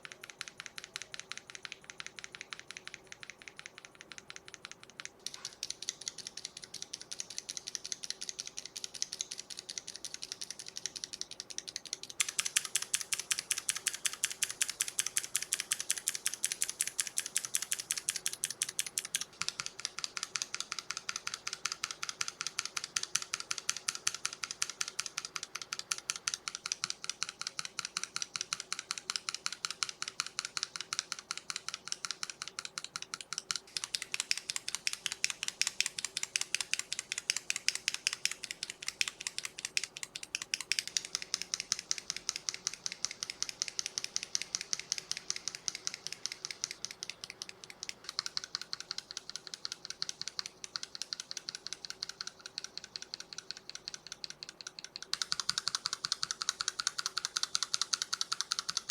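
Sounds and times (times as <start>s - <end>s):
mechanical keyboard switch clacks: 0.0s - 58.9s.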